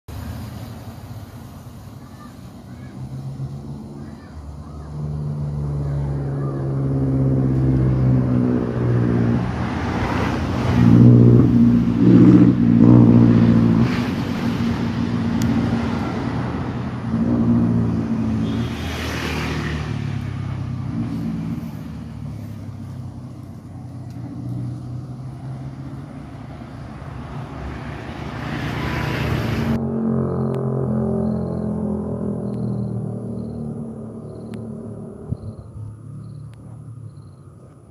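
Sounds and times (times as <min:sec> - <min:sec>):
vehicles passing on road: 0:00.0 - 0:37.9.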